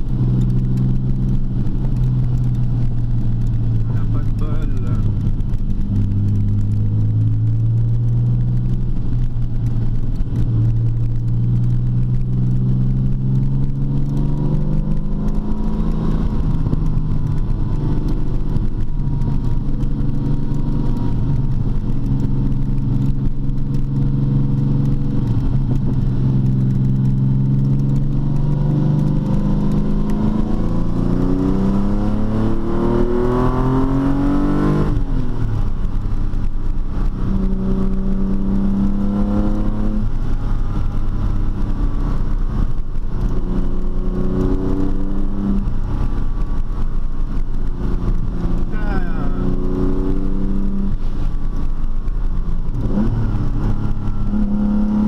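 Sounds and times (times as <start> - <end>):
car engine running and accelerating: 0.0 - 55.0.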